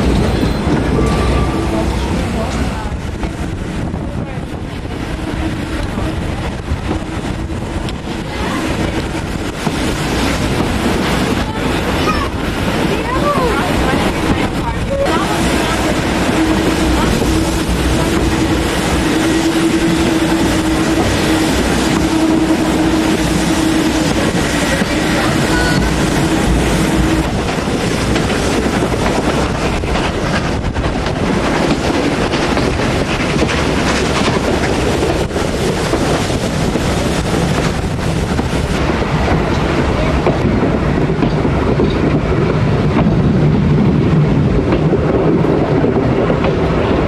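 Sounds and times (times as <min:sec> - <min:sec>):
train wheels rolling on rails: 0:00.0 - 0:47.0.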